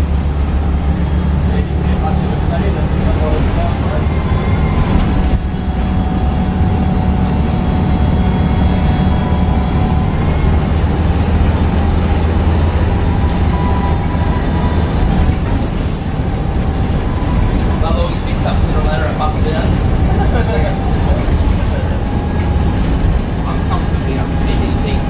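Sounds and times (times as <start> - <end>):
bus diesel engine drone: 0.0 - 25.0
road noise: 0.0 - 25.0.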